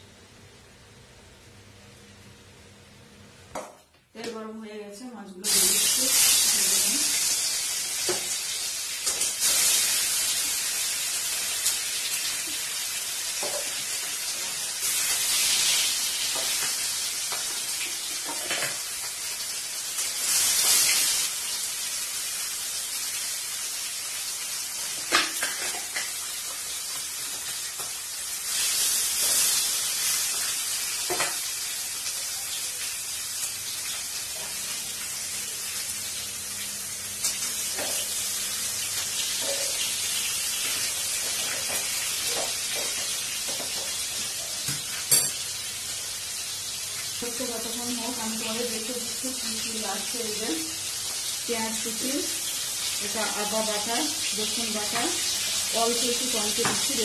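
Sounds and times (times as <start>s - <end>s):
fish sizzling in hot oil: 5.4s - 57.0s.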